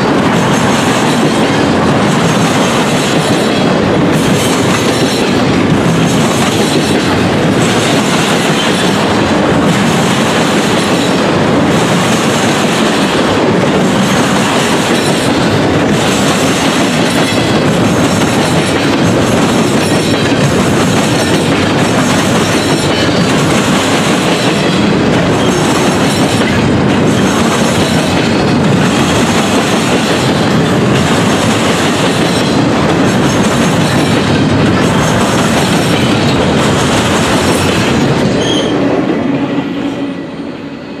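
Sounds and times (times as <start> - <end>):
train wheels rumbling and clattering: 0.0 - 41.0.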